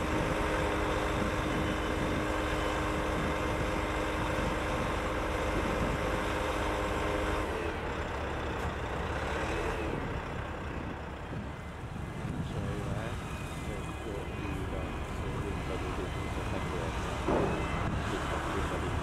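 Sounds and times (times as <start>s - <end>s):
hydraulic machinery hum: 0.0s - 19.0s
truck engine running: 0.0s - 19.0s.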